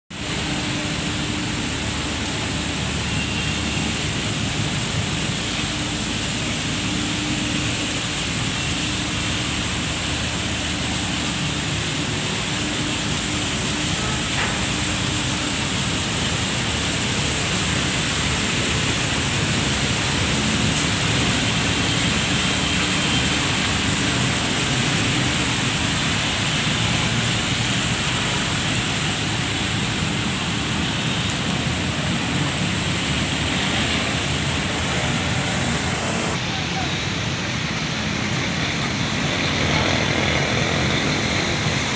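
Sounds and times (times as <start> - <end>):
steady rain falling: 0.2 - 41.9.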